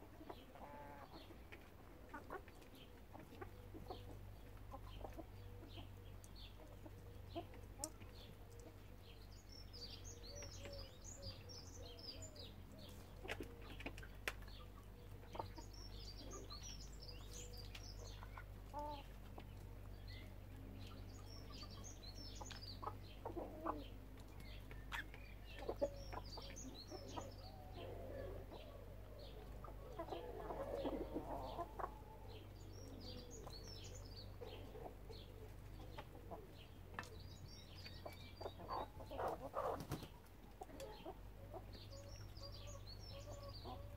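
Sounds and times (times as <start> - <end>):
chickens clucking softly: 0.0 - 43.9
small birds chirping: 0.0 - 43.9.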